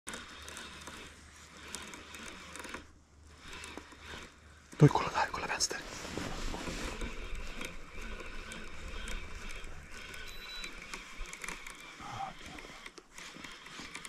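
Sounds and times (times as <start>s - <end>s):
fishing reel whirring: 0.1s - 5.0s, 6.6s - 14.0s.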